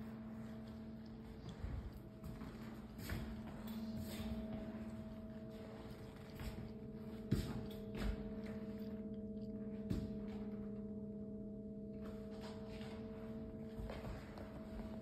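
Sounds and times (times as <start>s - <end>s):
low hum of held tones: 0.0s - 15.0s.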